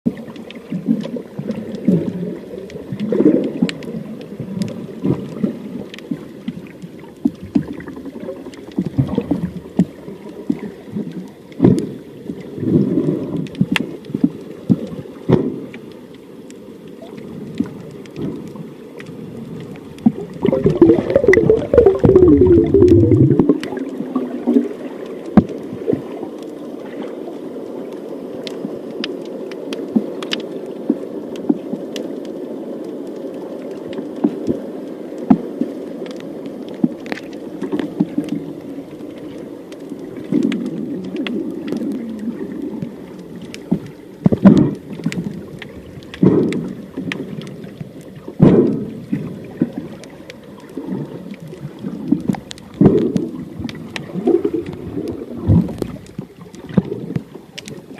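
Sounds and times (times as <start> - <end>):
muffled underwater noise: 0.1 - 57.9
surges of water: 0.1 - 57.9.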